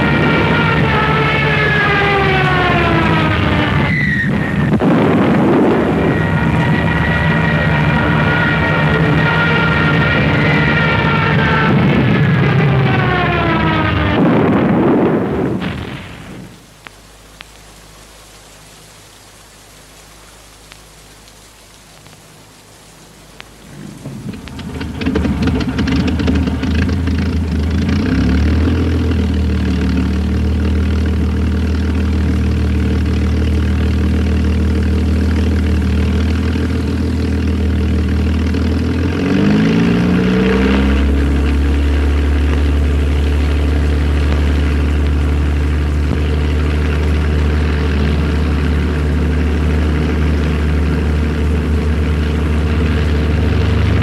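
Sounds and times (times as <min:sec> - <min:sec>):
large engine droning: 0:00.0 - 0:15.7, 0:23.7 - 0:54.0.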